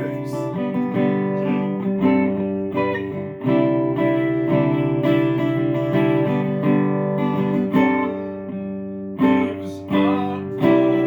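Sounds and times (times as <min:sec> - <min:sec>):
guitar strumming chords: 0:00.0 - 0:11.0.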